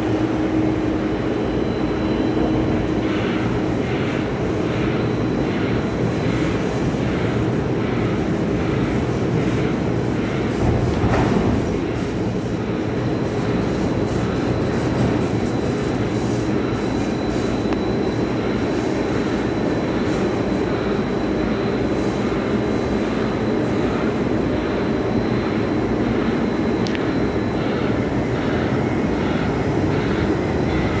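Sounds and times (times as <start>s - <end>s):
low rumble of port machinery: 0.0s - 31.0s.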